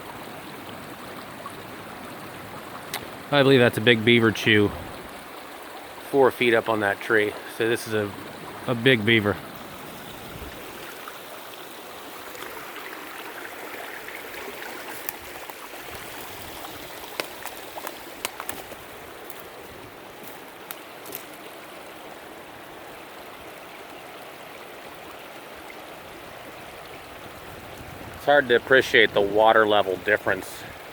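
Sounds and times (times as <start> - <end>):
stream water rushing: 0.0 - 30.9.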